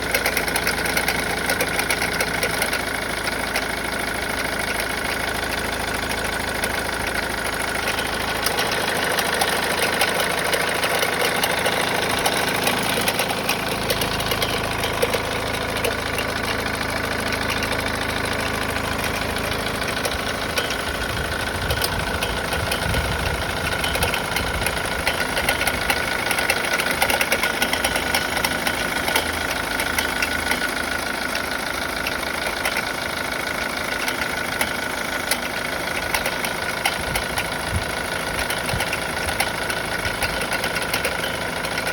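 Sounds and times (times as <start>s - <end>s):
engine mechanical clatter: 0.0s - 41.9s.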